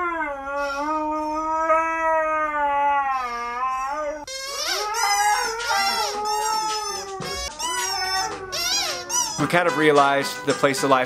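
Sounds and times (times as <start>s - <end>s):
dog howling: 0.0s - 9.5s.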